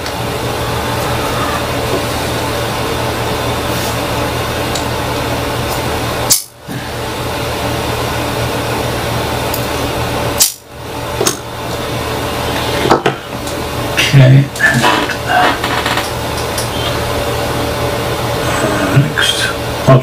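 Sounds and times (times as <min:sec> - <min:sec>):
steady hiss and electrical hum: 0:00.0 - 0:20.0.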